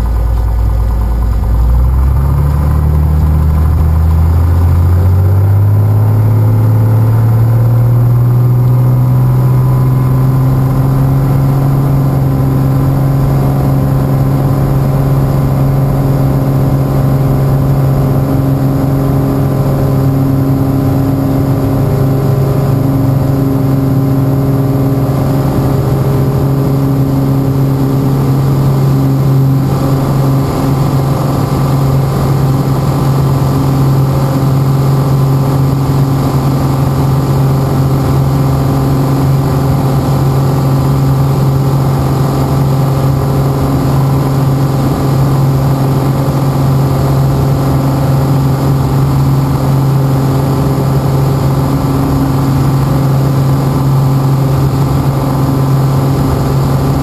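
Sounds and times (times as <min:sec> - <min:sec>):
propeller plane engine: 0:00.0 - 0:57.0.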